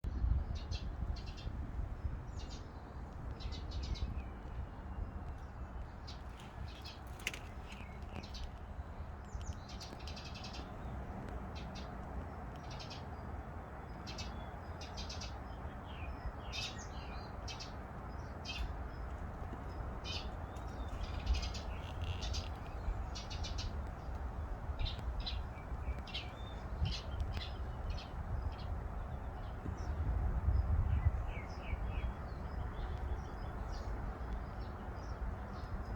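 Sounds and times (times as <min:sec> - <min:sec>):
small birds chirping: 0:00.4 - 0:35.9.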